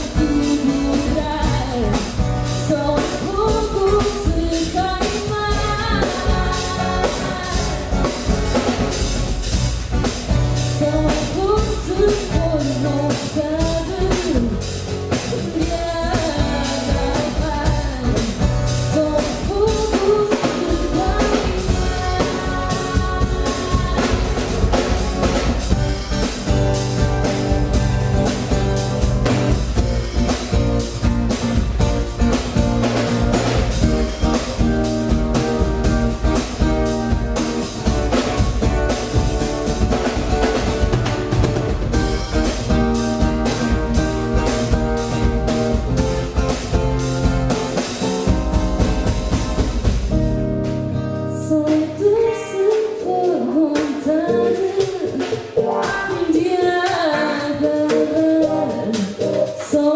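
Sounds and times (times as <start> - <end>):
drum kit steady beat: 0.0 - 59.9
live band music: 0.0 - 59.9.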